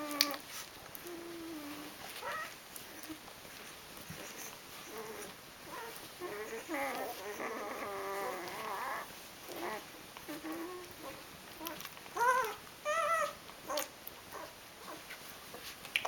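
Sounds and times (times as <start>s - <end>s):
puppies whimpering and squealing: 0.0s - 15.1s.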